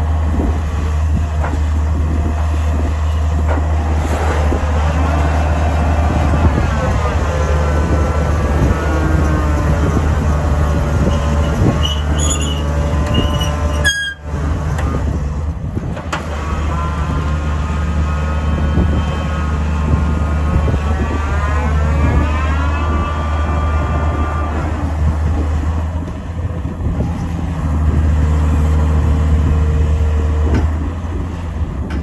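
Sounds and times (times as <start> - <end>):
diesel engine droning: 0.0 - 32.0
machinery whine: 0.0 - 32.0.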